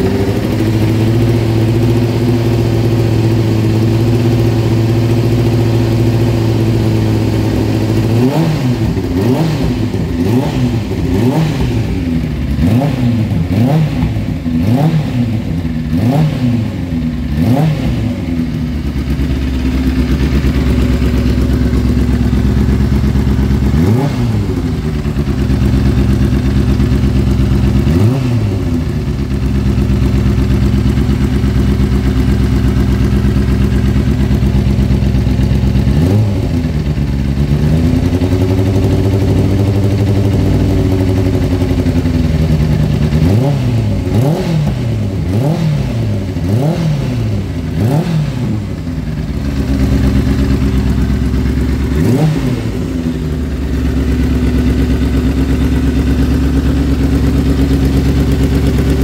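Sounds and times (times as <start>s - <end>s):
motorcycle engine idling and revving: 0.0s - 59.0s.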